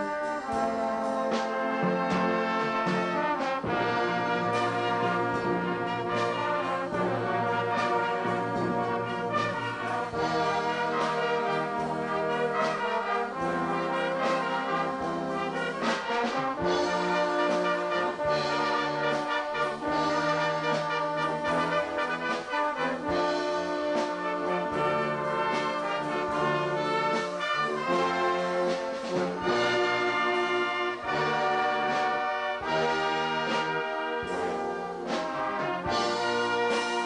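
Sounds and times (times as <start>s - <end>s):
brass band playing: 0.0s - 37.0s
drum strikes: 0.0s - 37.0s.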